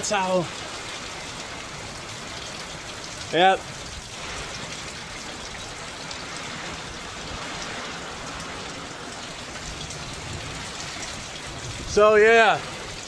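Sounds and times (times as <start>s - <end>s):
heavy rain falling: 0.0s - 13.0s
rain drop ticks: 0.0s - 13.0s.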